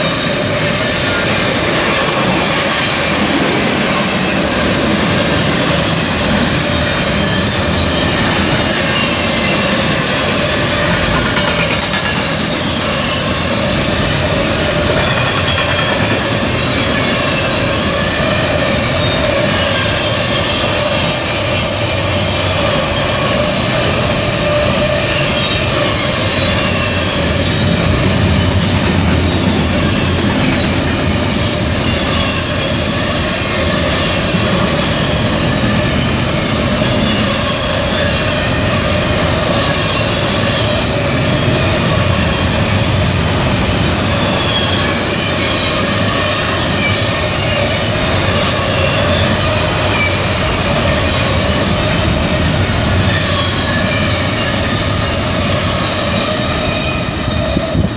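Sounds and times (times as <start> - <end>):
train wheels rumbling on rails: 0.0 - 57.9
wheel squeal: 0.0 - 57.9.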